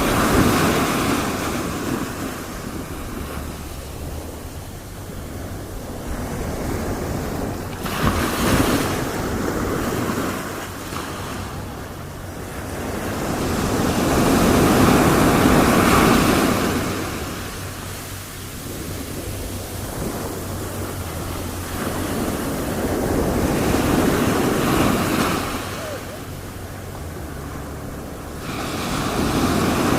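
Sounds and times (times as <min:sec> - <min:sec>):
ocean waves breaking: 0:00.0 - 0:29.9
wind on microphone: 0:00.0 - 0:29.9.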